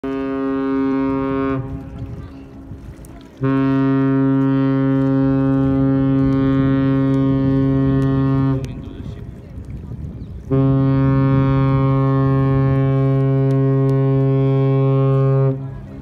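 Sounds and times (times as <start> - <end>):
ship's horn blasts: 0.0 - 8.9, 10.4 - 16.0.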